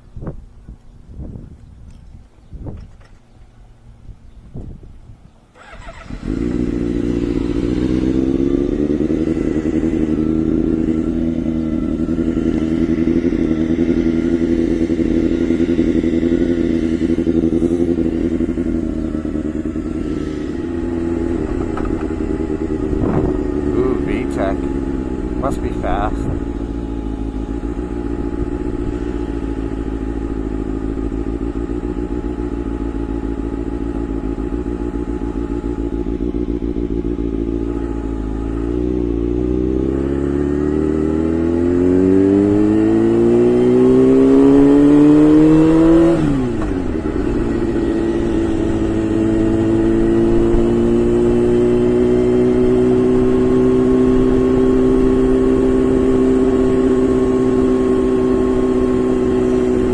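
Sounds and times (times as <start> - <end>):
motorcycle engine revving: 5.5 - 59.9.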